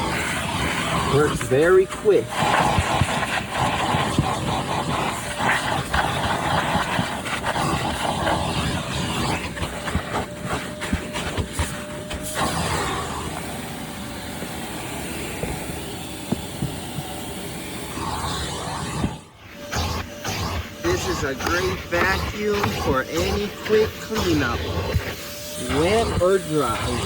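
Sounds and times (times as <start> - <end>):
shop vac running: 0.0 - 27.0.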